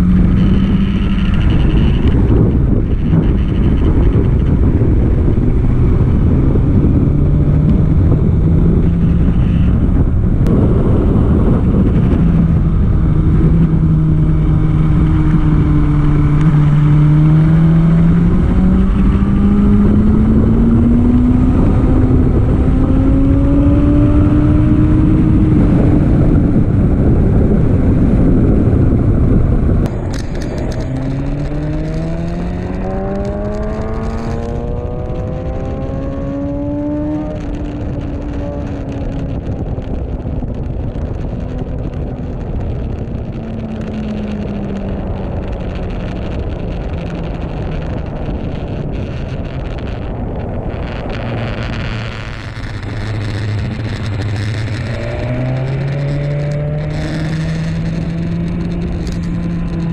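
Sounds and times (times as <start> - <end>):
heavy wind noise: 0.0 - 59.9
motorcycle engine revving: 0.0 - 59.9.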